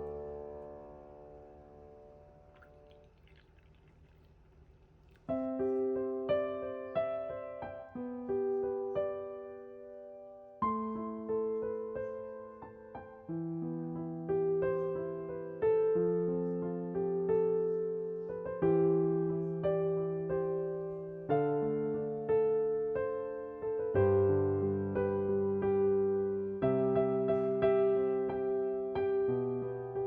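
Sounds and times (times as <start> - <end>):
gentle piano music: 0.0 - 4.2, 5.1 - 30.0.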